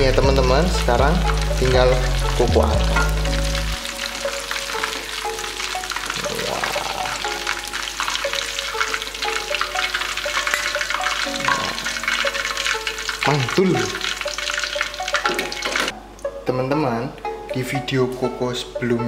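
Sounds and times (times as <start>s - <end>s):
chicken sizzling in deep-frying oil: 0.0s - 15.9s
soft background music: 0.0s - 19.0s.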